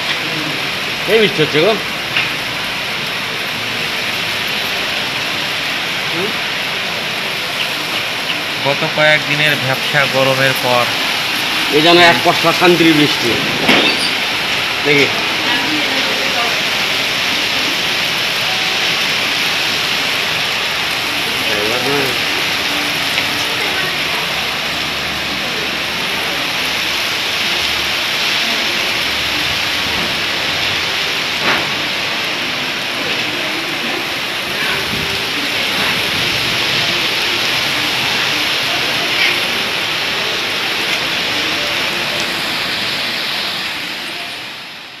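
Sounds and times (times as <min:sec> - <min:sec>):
heavy rain on rooftops: 0:00.0 - 0:45.0.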